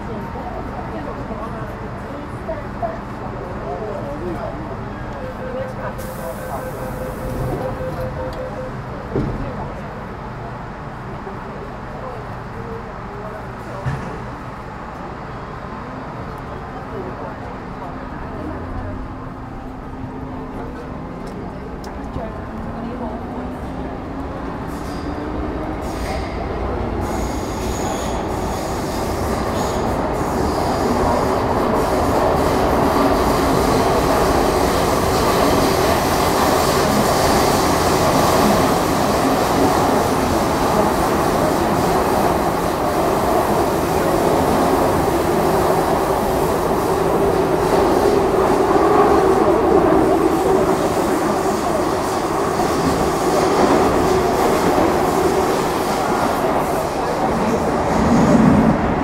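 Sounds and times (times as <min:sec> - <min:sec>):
train wheels roaring on rails: 0:00.0 - 0:59.0.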